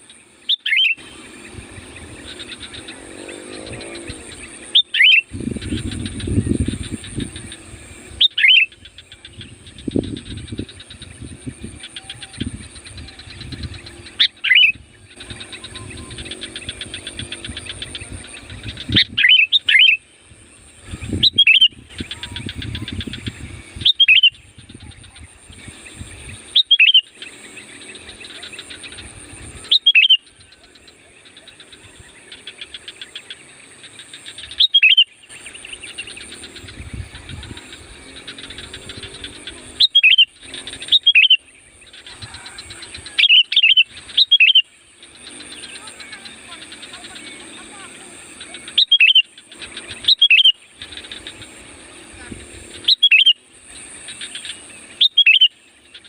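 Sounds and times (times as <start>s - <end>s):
birds chattering: 0.0s - 56.0s
bulbul whistled calls: 0.0s - 56.0s.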